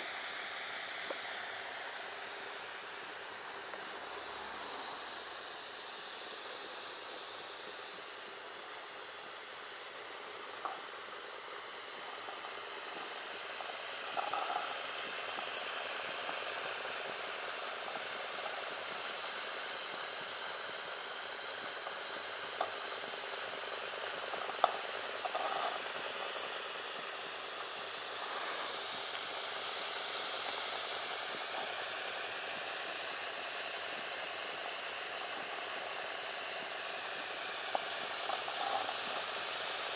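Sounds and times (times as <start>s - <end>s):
model steam engine running: 0.0s - 39.9s
steam hissing: 0.0s - 39.9s.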